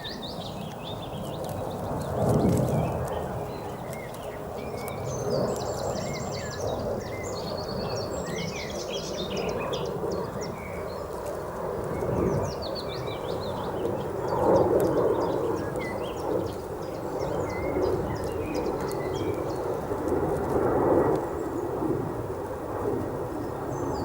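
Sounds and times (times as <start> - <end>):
songbirds chirping and trilling: 0.0 - 21.7.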